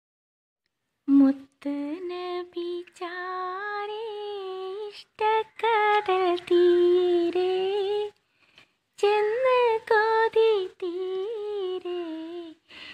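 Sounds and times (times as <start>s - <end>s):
woman singing unaccompanied: 1.1s - 8.2s, 9.0s - 12.8s.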